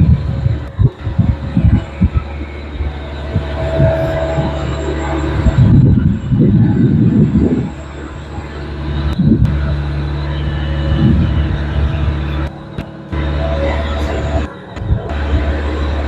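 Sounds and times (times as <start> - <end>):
diesel engine running with surges: 0.0 - 16.0.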